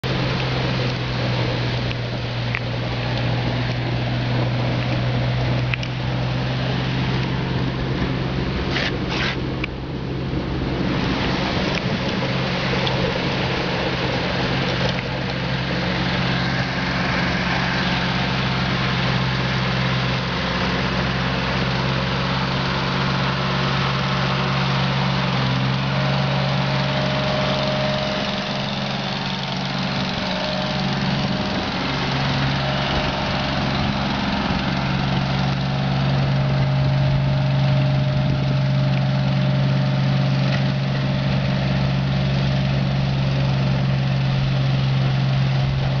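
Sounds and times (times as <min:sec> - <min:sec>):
snow plowing hiss: 0:00.0 - 0:46.0
truck engine humming: 0:00.0 - 0:46.0.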